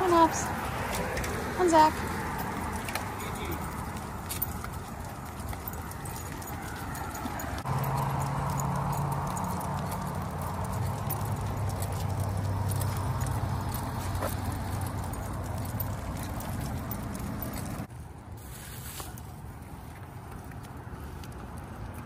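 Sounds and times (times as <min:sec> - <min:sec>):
car engine hum: 0:00.0 - 0:17.9
tags and leash clips jingling: 0:00.0 - 0:17.9
dog paws pattering on asphalt: 0:00.0 - 0:22.0.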